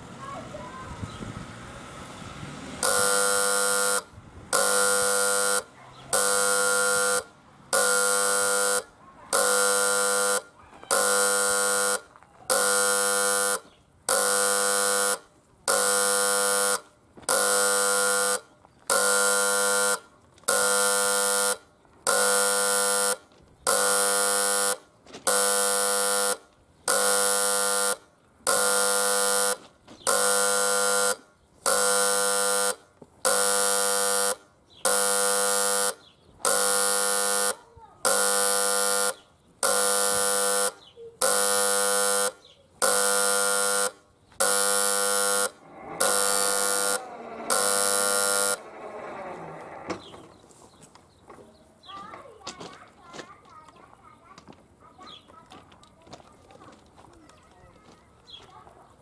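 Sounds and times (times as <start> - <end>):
level crossing buzzer pulses: 2.8 - 50.4.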